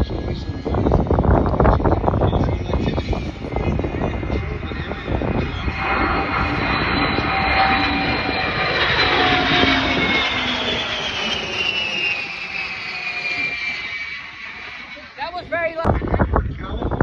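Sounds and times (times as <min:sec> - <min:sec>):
aircraft flying low overhead: 0:00.0 - 0:17.0.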